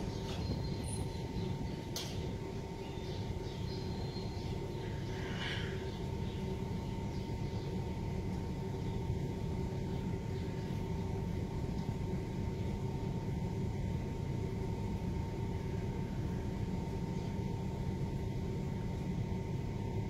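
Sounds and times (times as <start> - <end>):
faint constant hum: 0.0 - 20.0
low rumbling background noise: 0.0 - 20.0.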